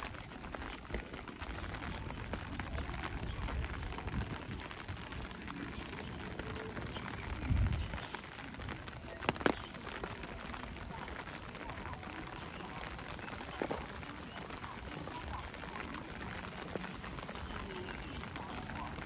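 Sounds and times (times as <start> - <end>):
footsteps on wet paving: 0.0 - 19.0
rain patter: 0.0 - 19.0.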